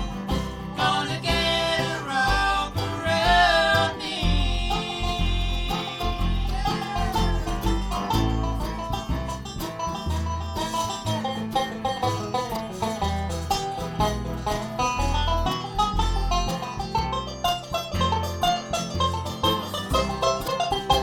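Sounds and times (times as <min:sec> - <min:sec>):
bluegrass band playing: 0:00.0 - 0:21.0
picked banjo notes: 0:00.0 - 0:21.0.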